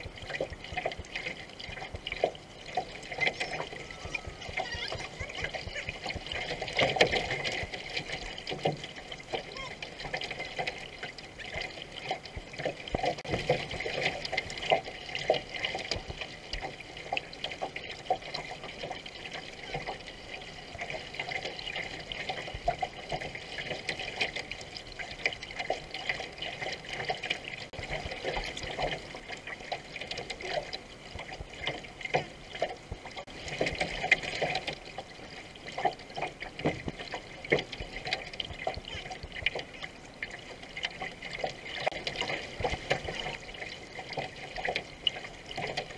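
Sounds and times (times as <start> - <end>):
paddle splashes: 0.0 - 45.9
water rushing along a hull: 0.0 - 45.9.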